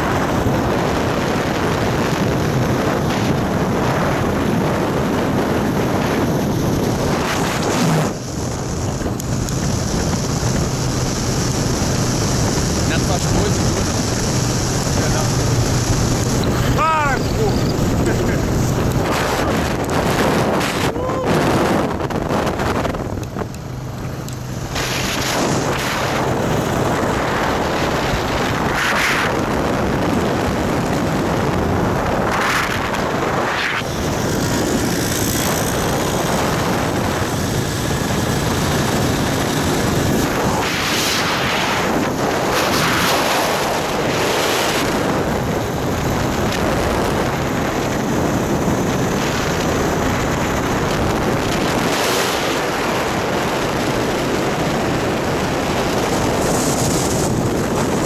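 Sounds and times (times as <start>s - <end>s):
quad bike engine running: 0.0s - 58.0s
wind rushing over microphone: 0.0s - 58.0s.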